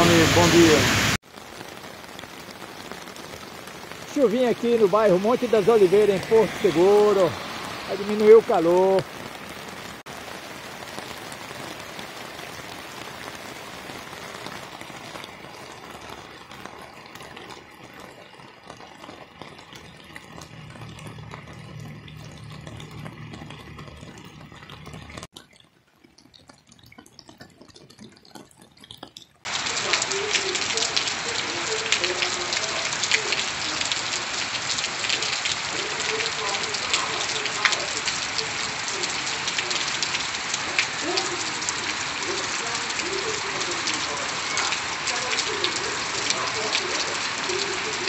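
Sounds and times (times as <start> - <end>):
heavy rain pattering on street: 0.0 - 48.0
rain falling: 0.0 - 48.0.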